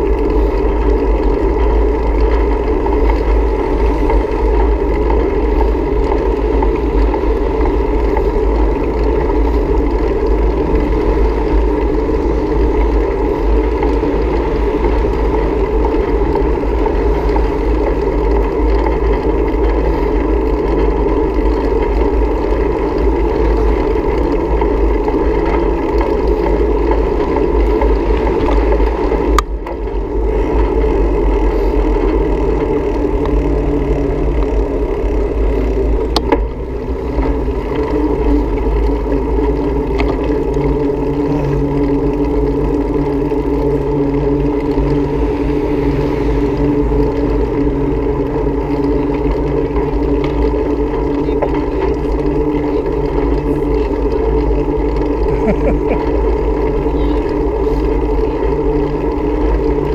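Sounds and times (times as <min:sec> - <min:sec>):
low rumble: 0:00.0 - 0:59.9
vehicle motor running: 0:00.0 - 0:59.9.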